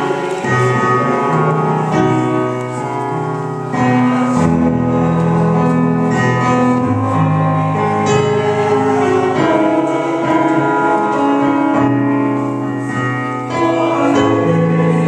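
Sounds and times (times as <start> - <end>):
congregation singing chords: 0.0 - 15.0
keyboard accompaniment: 0.0 - 15.0.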